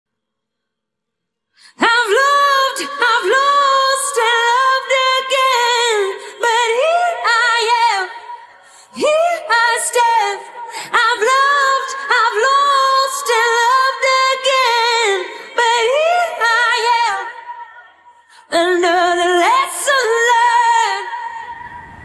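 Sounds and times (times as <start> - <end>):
woman singing with vibrato: 1.6 - 22.0.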